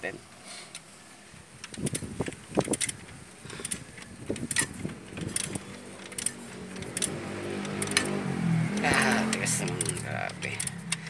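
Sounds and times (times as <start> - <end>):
metallic clinks and knocks of tools: 1.9 - 11.0.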